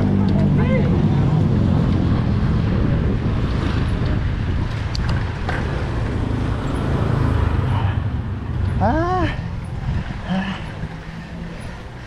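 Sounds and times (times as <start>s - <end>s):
wind noise: 0.0s - 11.2s
motorbikes passing: 0.0s - 12.0s.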